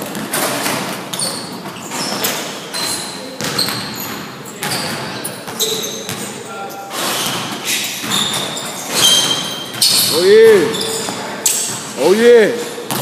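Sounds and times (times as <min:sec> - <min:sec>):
basketball bouncing on gym floor: 0:00.0 - 0:06.4, 0:07.1 - 0:12.0, 0:12.7 - 0:13.0
sneaker squeaks: 0:00.0 - 0:13.0.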